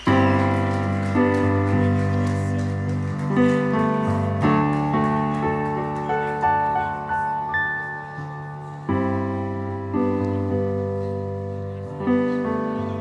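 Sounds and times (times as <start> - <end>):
keyboard playing sustained chords: 0.0 - 13.0.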